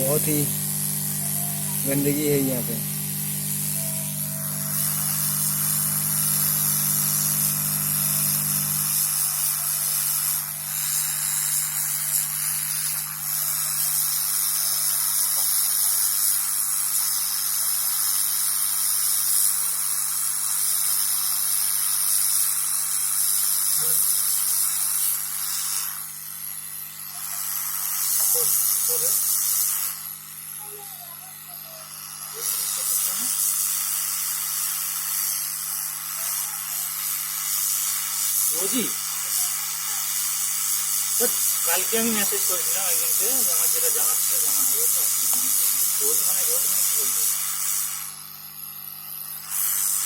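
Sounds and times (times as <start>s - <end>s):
hot air blower hissing: 0.0s - 50.0s.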